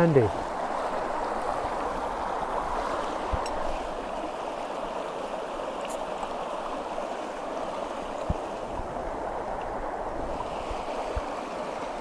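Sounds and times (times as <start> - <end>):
stream running over stones: 0.0 - 12.0.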